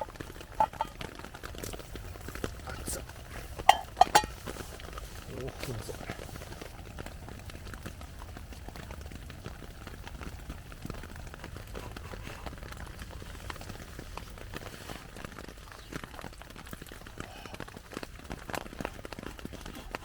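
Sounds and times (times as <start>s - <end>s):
pot simmering and bubbling: 0.0s - 20.0s
rain pattering on tarp: 0.0s - 20.0s.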